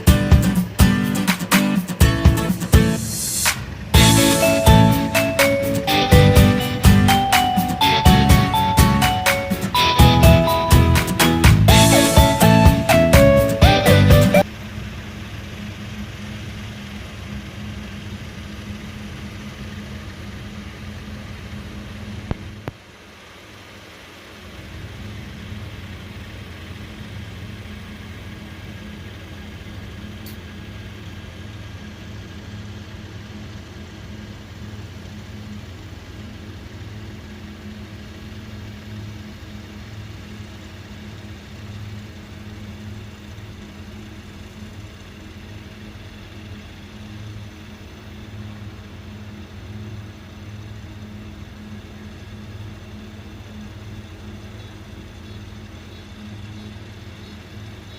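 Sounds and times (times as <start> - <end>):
combine harvester engine running: 0.0 - 57.9.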